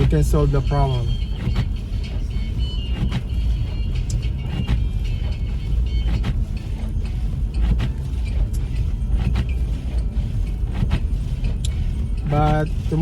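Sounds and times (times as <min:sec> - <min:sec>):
car driving through snow: 0:00.0 - 0:13.0.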